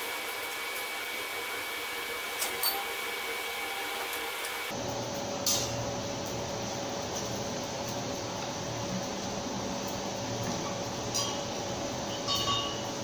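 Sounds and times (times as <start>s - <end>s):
forge air blower hissing: 0.0s - 13.0s.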